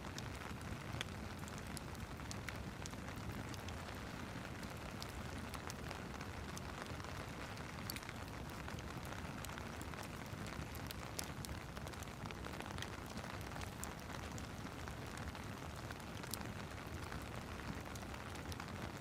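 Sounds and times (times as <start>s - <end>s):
steady rain hiss: 0.0s - 19.0s
fireplace crackling and popping: 0.1s - 19.0s.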